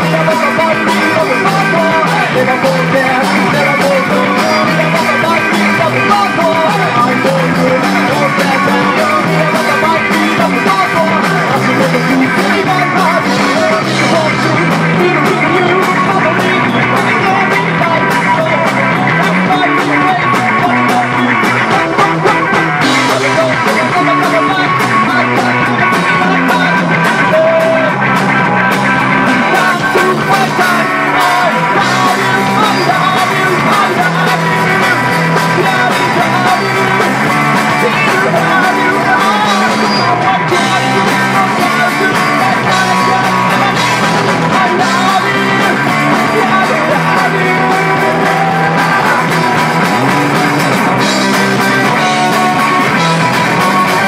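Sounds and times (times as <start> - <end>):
bass guitar: 0.0 - 54.0
drum kit: 0.0 - 54.0
electric guitars: 0.0 - 54.0
man singing lead: 0.0 - 54.0.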